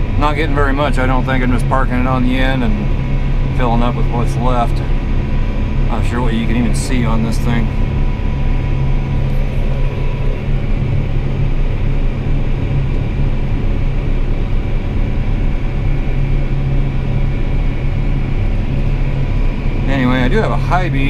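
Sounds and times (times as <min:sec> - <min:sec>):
faint steady whine: 0:00.0 - 0:21.0
vehicle engine low hum: 0:00.0 - 0:21.0.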